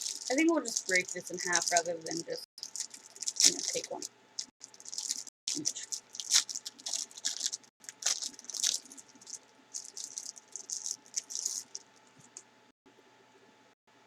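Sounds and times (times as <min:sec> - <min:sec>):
snack packaging crinkling: 0:00.0 - 0:12.4.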